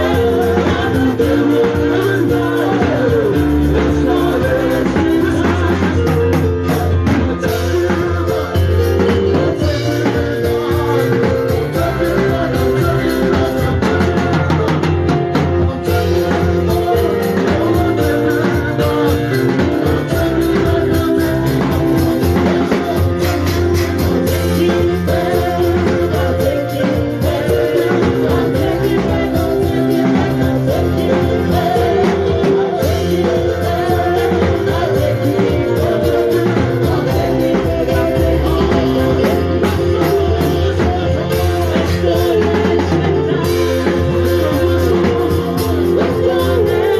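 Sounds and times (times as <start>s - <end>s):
person singing: 0.0s - 46.9s
worship band music: 0.0s - 46.9s.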